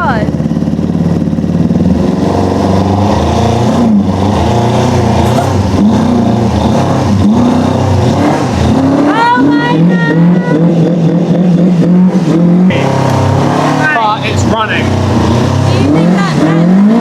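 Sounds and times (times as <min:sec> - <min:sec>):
motorcycle engine revving roughly: 0:00.0 - 0:17.0.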